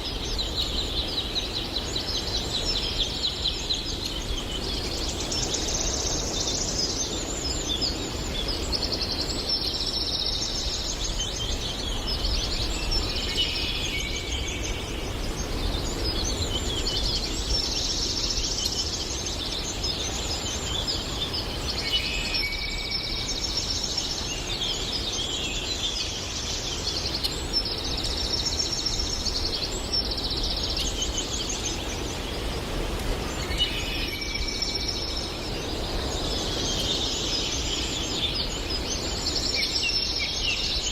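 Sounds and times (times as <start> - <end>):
songbirds twittering: 0.0 - 40.9.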